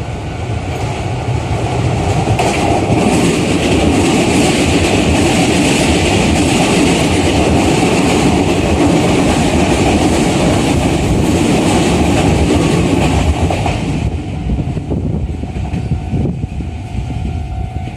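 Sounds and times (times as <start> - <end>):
electric train passing: 0.0 - 17.9.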